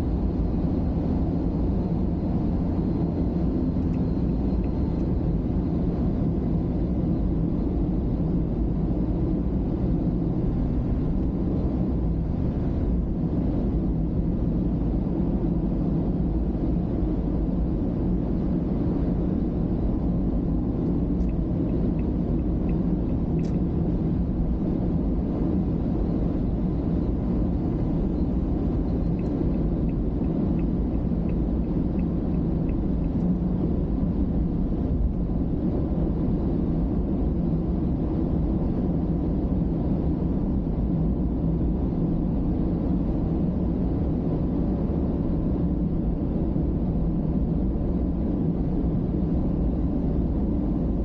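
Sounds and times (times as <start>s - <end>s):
car road and engine noise: 0.0s - 51.0s.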